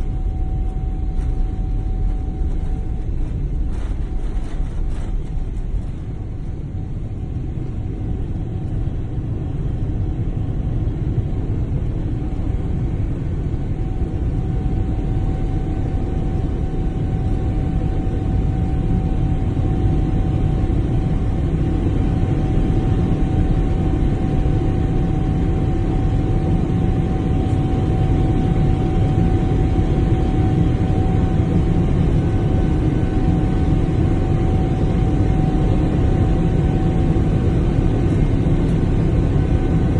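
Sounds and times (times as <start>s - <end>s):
airplane engine rumble in cabin: 0.0s - 39.9s
steady engine whine: 0.0s - 39.9s.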